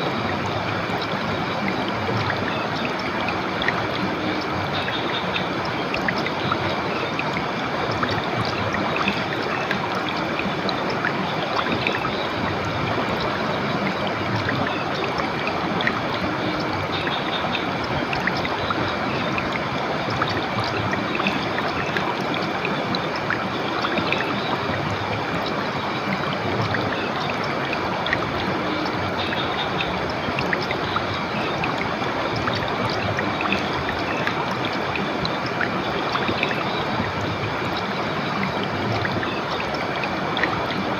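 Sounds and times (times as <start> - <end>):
stream flowing: 0.0 - 40.9
water splashing ticks: 0.0 - 40.9.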